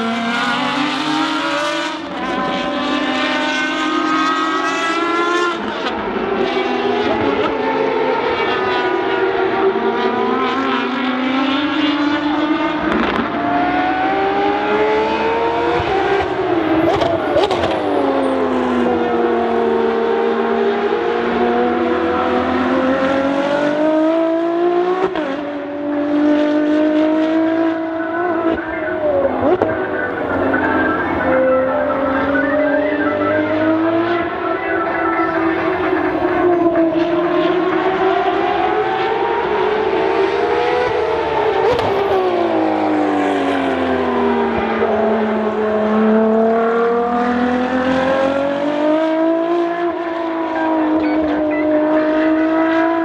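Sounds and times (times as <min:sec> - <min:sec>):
race car engines on a track: 0:00.0 - 0:53.0.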